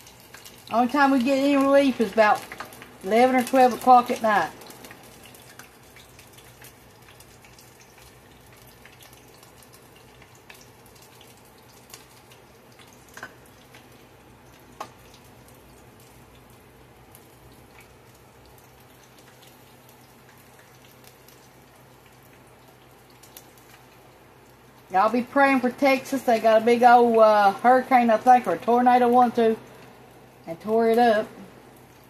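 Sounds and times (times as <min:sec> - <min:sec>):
oil sizzling and crackling: 0:00.0 - 0:32.0.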